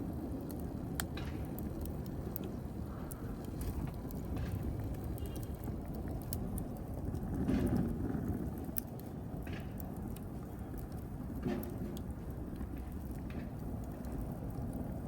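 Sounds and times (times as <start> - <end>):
fire crackling and popping: 0.0 - 15.0
wood fire burning: 0.0 - 15.0.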